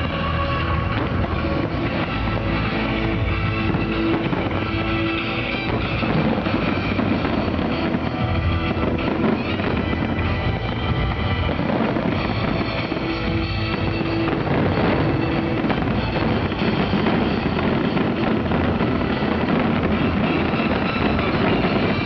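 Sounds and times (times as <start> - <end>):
firework whistle: 0.0 - 22.0
fireworks bangs and crackling: 0.0 - 22.0.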